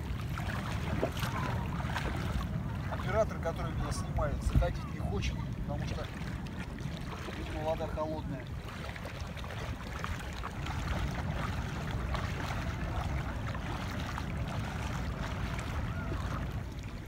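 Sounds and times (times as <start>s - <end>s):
person wading through splashing water: 0.0s - 17.0s
wind rumble on microphone: 0.0s - 17.0s.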